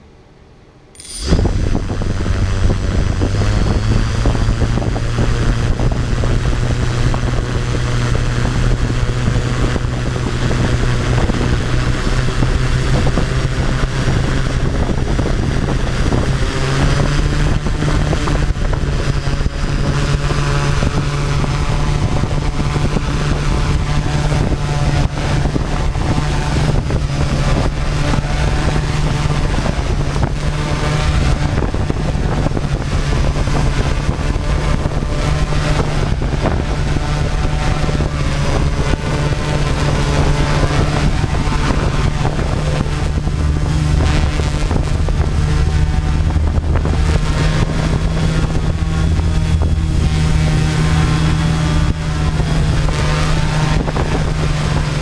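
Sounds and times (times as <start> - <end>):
quadcopter motors humming: 0.9 - 55.0
rush of prop wash: 1.6 - 55.0.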